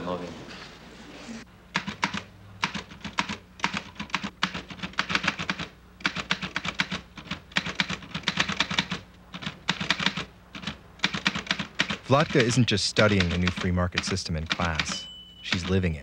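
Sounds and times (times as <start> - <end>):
typewriter keystrokes: 1.8 - 15.8.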